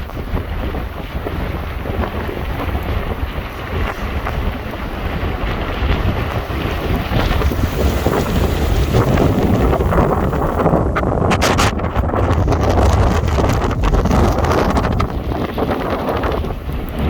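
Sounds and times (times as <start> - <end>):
gusting wind buffeting microphone: 0.0 - 17.0.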